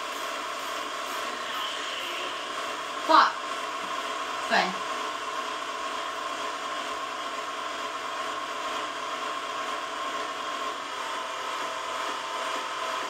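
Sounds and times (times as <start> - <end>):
machine whirring hum: 0.0 - 13.0.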